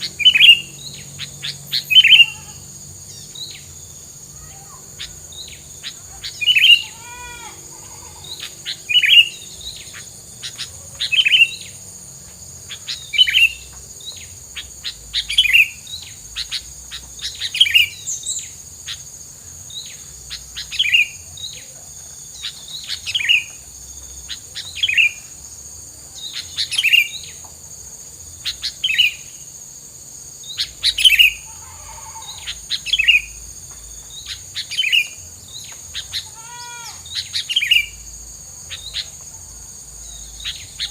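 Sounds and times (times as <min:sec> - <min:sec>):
high insect whine: 0:00.0 - 0:40.9
songbird chirping: 0:00.0 - 0:40.9.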